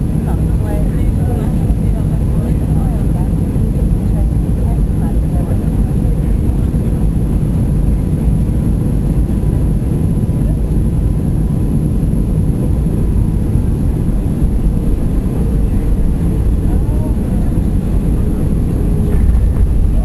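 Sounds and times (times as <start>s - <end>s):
faint steady hum: 0.0s - 20.0s
jet engine cabin rumble: 0.0s - 20.0s.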